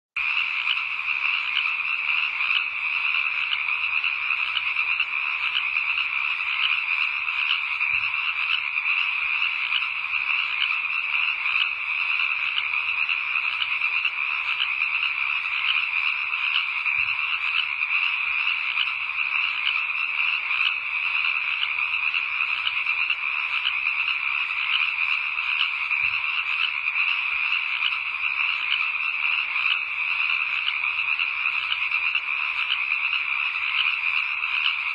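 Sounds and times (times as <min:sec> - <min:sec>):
frogs croaking: 0:00.2 - 0:34.9.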